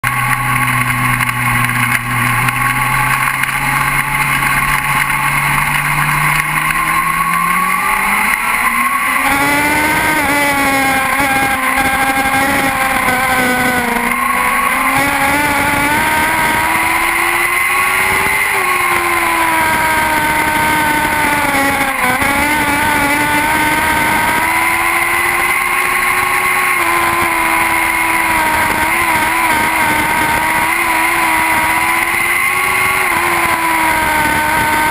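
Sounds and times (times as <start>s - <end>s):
sprint car engines racing: 0.0s - 34.9s.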